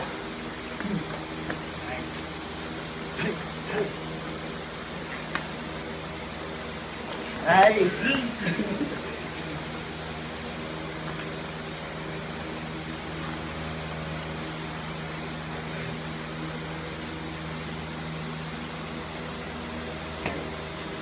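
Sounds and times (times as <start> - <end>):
ventilation hum with tones: 0.0 - 21.0.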